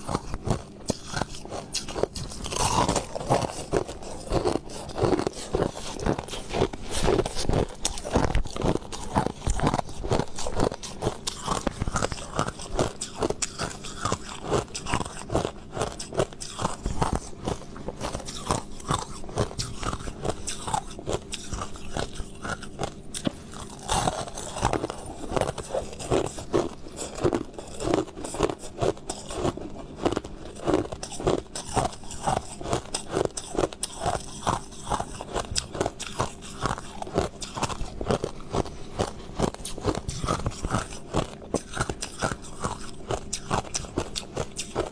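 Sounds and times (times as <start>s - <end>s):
chewing crushed ice: 0.0s - 44.9s.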